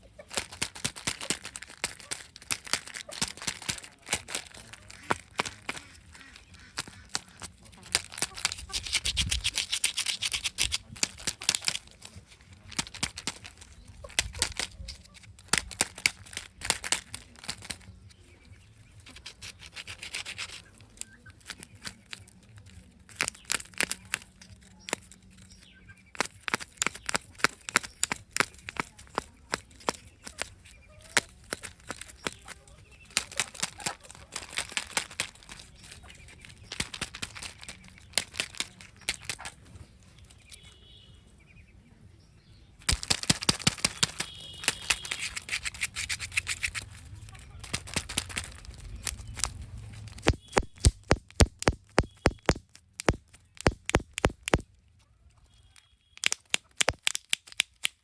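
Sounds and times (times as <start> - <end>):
plastic packaging crinkling: 0.2 - 18.1, 19.0 - 40.8, 42.8 - 54.7, 55.7 - 58.0.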